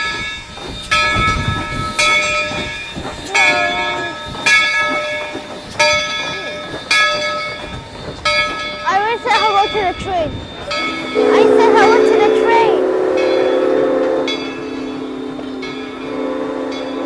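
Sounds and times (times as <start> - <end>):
locomotive bell ringing: 0.0 - 17.0.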